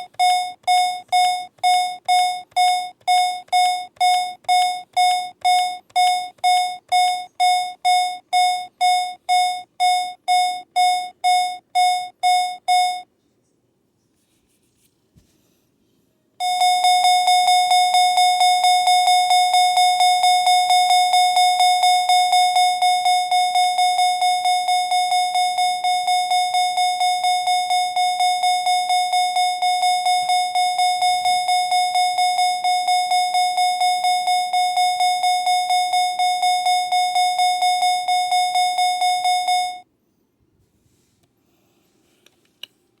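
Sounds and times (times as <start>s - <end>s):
fire alarm buzzy pulsing tone: 0.0s - 13.0s, 16.4s - 39.8s.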